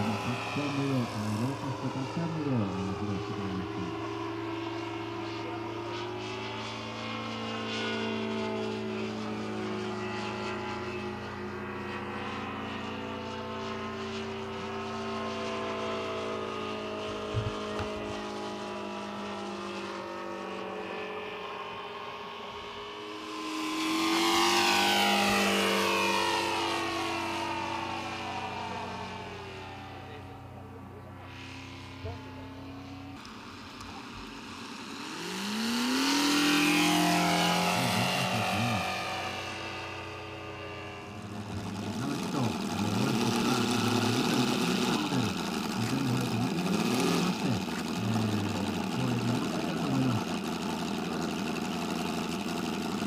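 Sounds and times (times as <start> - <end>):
model aircraft engine passing close: 0.0 - 53.0
model aircraft engines flying overhead: 0.0 - 53.0.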